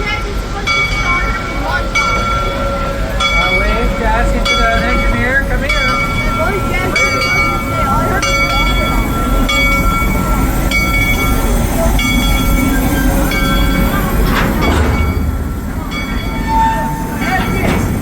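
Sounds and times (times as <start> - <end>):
steam train running: 0.0 - 18.0.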